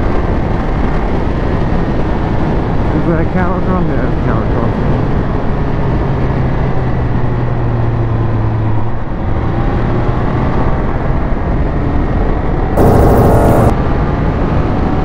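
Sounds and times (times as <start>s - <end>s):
rushing wind and road noise: 0.0s - 15.0s.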